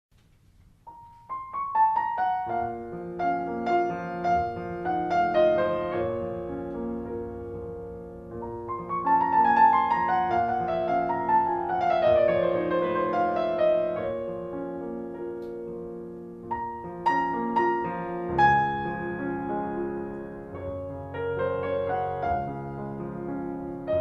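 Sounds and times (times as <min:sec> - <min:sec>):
solo piano melody: 0:00.2 - 0:24.0.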